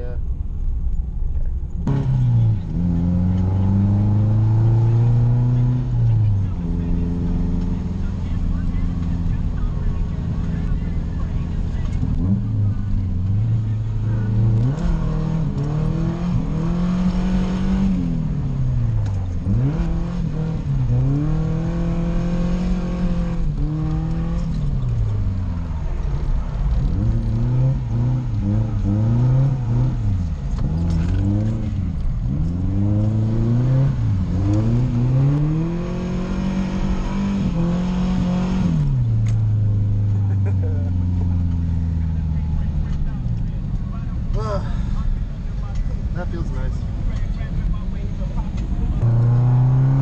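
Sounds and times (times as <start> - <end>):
car engine revving hard: 1.9 - 43.0, 48.5 - 50.0.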